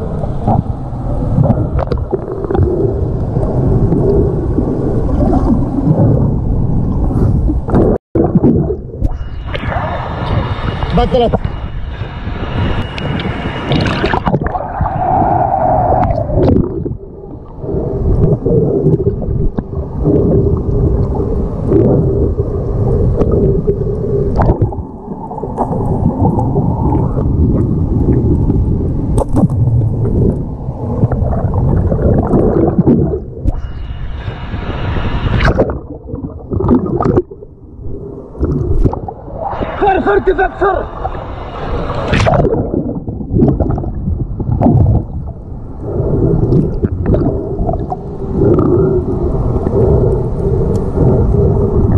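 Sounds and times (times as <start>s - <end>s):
muffled underwater water rushing: 0.0s - 51.9s
faint steady hum: 8.2s - 51.9s.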